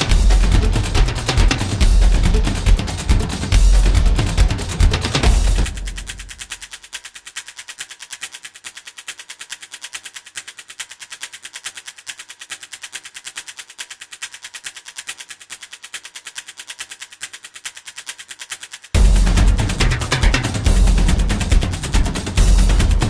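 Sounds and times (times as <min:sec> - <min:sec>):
rapid high ticking music pulse: 0:00.0 - 0:23.0.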